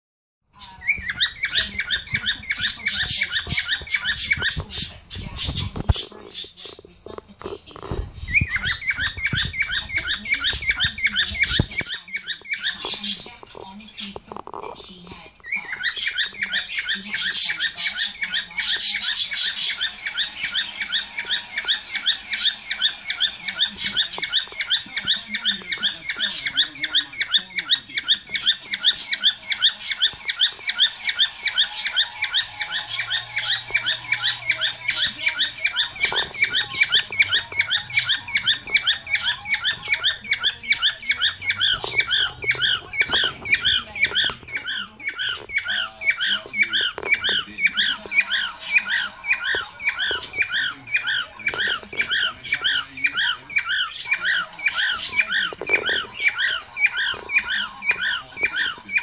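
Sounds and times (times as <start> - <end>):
cockatiel squeaky calls: 0.6 - 7.6, 8.2 - 59.0.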